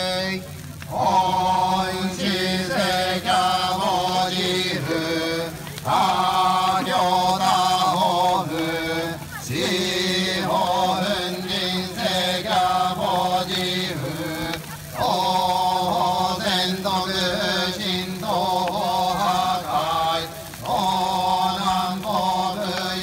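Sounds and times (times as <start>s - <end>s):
droning chant: 0.0s - 23.0s.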